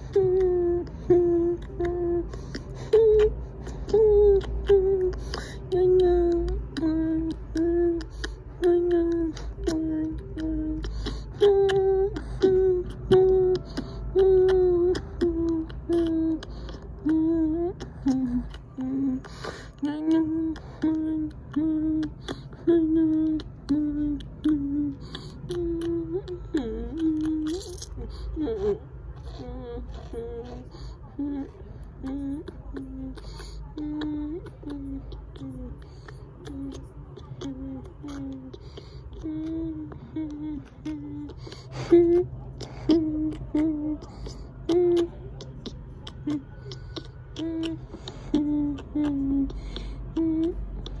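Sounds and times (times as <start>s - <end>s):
low background rumble: 0.0s - 51.0s
person humming in a high voice: 0.0s - 51.0s.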